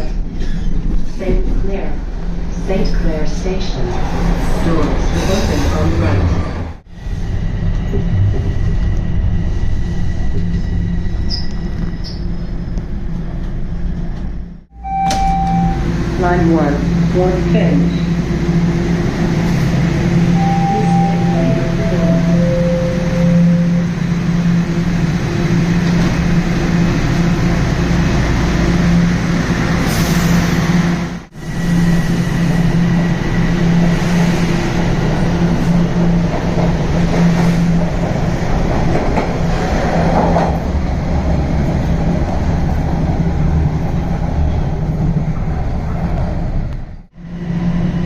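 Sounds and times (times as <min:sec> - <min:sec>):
rumbling rail noise: 0:00.0 - 0:48.0
subway train running: 0:00.0 - 0:48.0.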